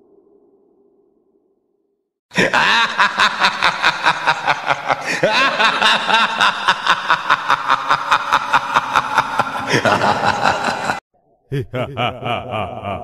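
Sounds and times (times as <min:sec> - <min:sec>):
loud rhythmic laughter: 0:02.3 - 0:13.0.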